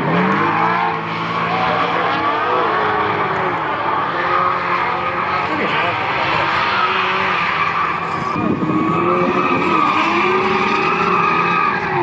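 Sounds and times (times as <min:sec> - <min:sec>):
car engine revving high: 0:00.0 - 0:12.0
high-pitched tyre squeal: 0:00.0 - 0:12.0.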